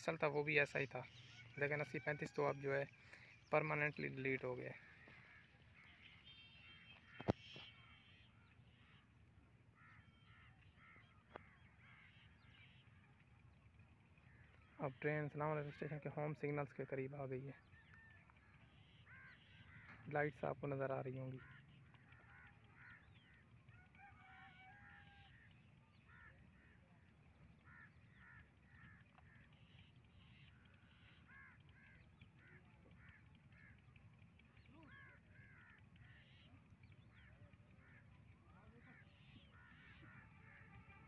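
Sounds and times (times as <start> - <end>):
faint bird caws: 0.0 - 41.0.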